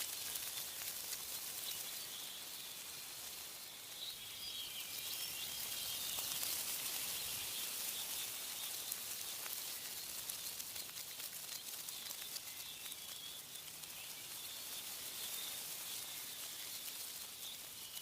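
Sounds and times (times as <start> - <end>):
small birds chirping: 0.0 - 18.0
wind rustling leaves: 0.0 - 18.0.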